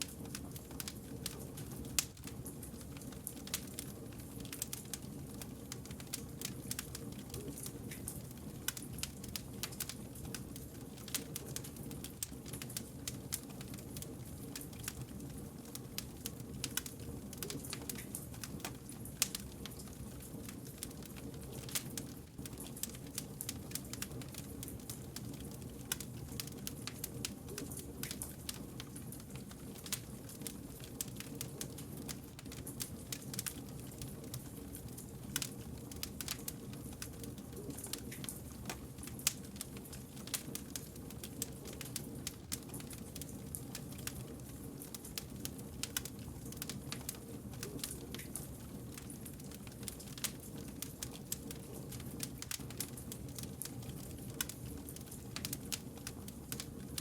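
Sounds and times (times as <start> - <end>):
campfire crackling and snapping: 0.0 - 57.0
low rumble of flames: 0.0 - 57.0.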